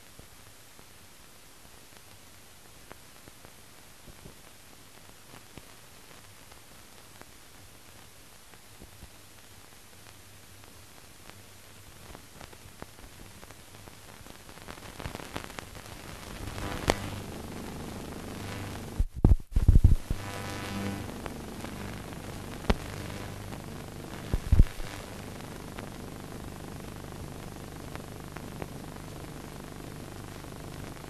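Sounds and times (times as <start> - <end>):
film soundtrack hiss and crackle: 0.0 - 31.0.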